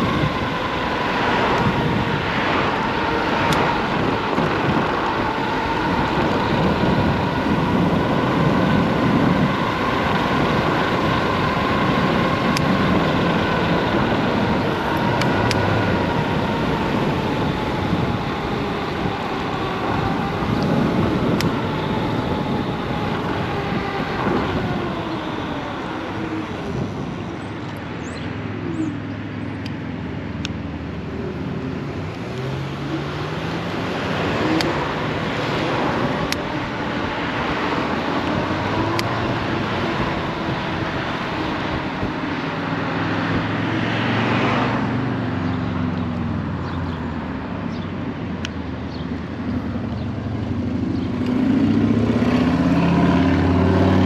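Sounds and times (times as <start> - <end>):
electric scooter motors whining: 0.0 - 54.0
road noise rushing: 0.0 - 54.0.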